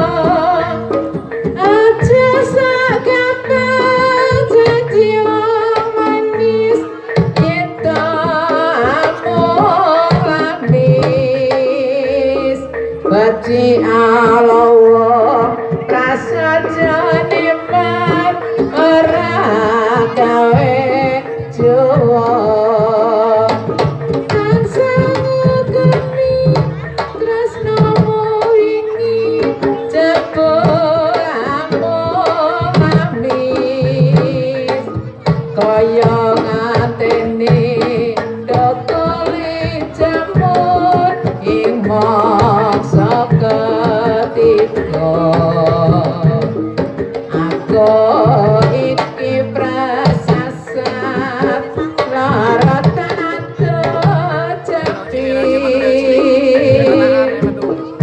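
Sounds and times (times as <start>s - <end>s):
hand drums beating: 0.0s - 58.0s
ornamented melody line: 0.0s - 58.0s
person singing: 0.0s - 58.0s.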